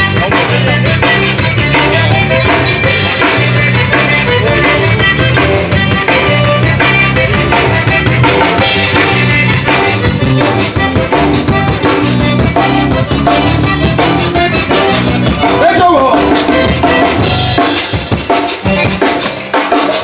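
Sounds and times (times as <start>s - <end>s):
drum kit beat: 0.0s - 20.0s
live band playing upbeat tune: 0.0s - 20.0s.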